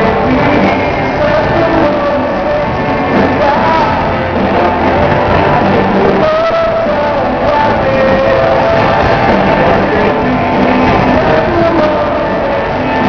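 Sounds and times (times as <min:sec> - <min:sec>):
guitar: 0:00.0 - 0:13.0
live band playing rock music: 0:00.0 - 0:13.0.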